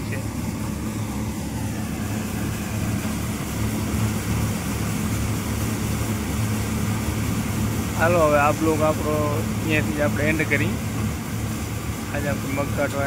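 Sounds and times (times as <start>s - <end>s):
threshing machine droning: 0.0s - 13.0s.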